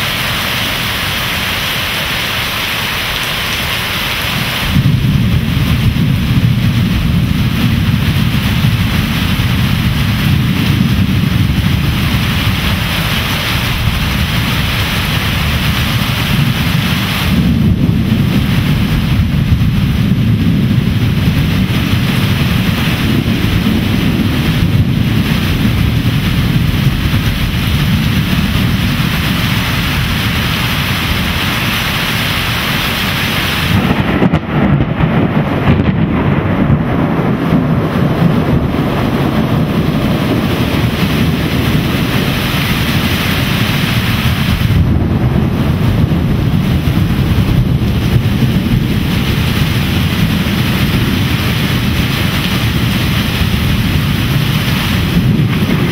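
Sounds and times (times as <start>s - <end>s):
torrential rain hissing: 0.0s - 55.9s
rolling thunder rumble: 2.3s - 55.9s.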